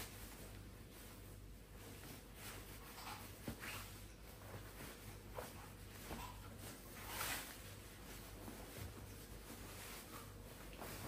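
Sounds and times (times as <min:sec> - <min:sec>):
low steady hum: 0:00.0 - 0:11.0
swishing rustle: 0:00.0 - 0:11.0.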